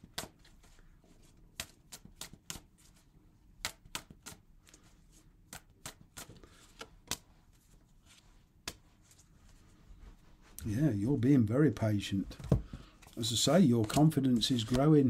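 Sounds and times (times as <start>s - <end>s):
cards being shuffled: 0.0s - 9.8s, 12.4s - 15.0s.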